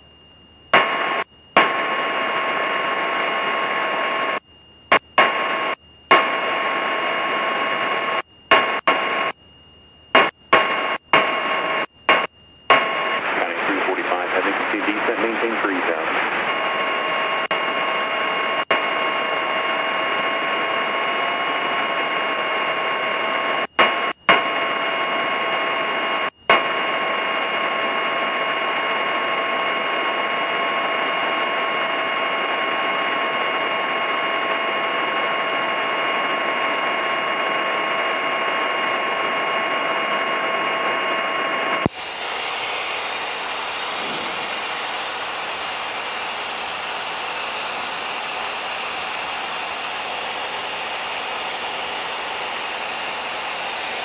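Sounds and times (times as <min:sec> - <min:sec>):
radio hiss: 0:00.7 - 0:09.4, 0:10.1 - 0:36.9, 0:37.8 - 0:54.0.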